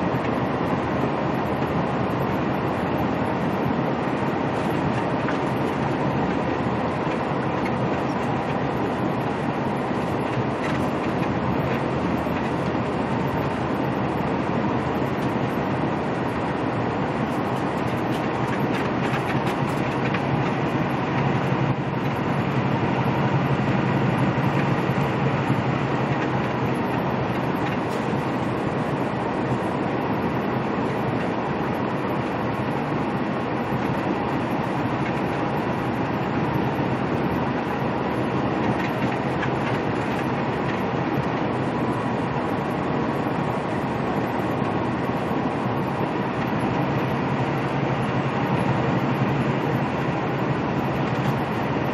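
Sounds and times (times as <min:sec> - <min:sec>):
diesel engine drone in truck cab: 0:00.0 - 0:51.9
tyres on road: 0:00.0 - 0:51.9.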